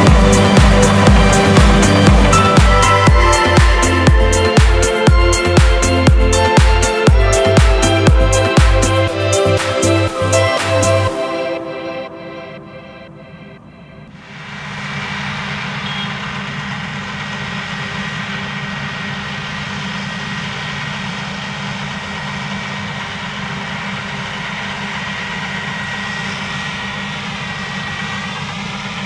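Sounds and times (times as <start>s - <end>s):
combine harvester droning: 0.0s - 29.0s
thin high whine: 0.0s - 29.0s.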